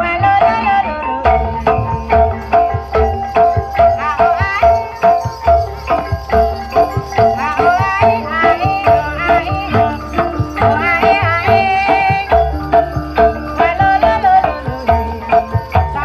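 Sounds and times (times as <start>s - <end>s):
gamelan music: 0.0s - 16.0s
hand drums beating: 1.2s - 16.0s.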